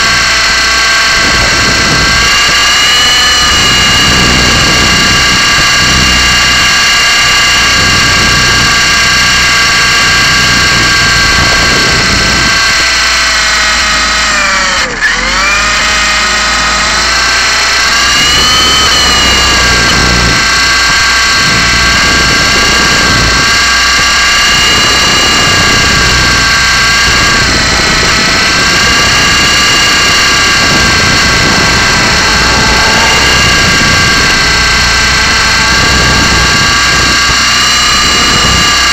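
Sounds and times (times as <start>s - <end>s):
rc helicopter rotor whining: 0.0s - 38.9s.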